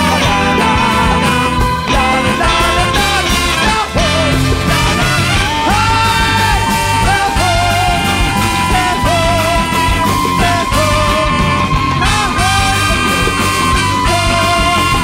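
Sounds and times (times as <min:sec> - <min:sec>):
big band playing jazz: 0:00.0 - 0:15.0
drums: 0:00.0 - 0:15.0.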